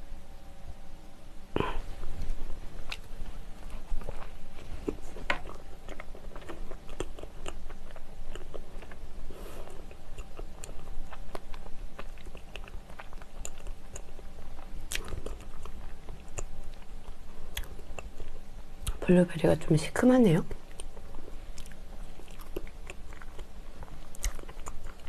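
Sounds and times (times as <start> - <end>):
person chewing with mouth clicks: 1.6 - 19.0, 20.5 - 25.0.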